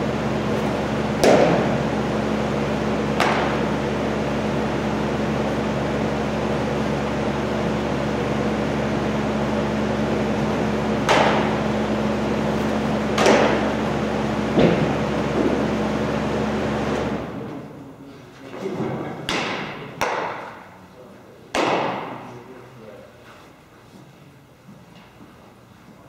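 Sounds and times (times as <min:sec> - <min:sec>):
ventilation hum: 0:00.0 - 0:26.0.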